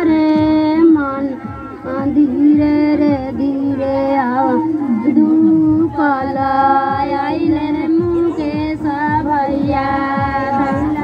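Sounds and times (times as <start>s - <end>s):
high voice singing: 0.0s - 11.0s.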